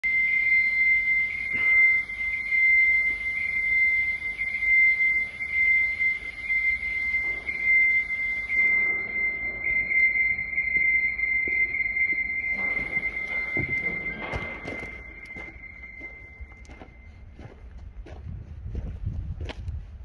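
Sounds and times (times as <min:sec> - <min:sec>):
high-pitched electronic tone: 0:00.0 - 0:17.3.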